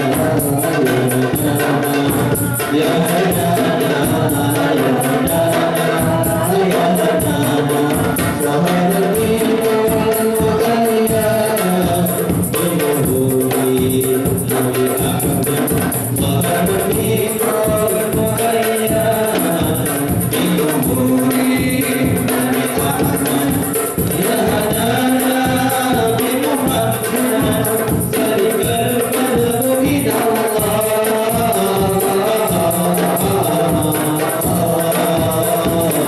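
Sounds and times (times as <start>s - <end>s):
barrel drum: 0.0s - 36.0s
frame drums beating: 0.0s - 36.0s
men singing in chorus: 0.0s - 36.0s
tambourine jingling: 0.0s - 36.0s.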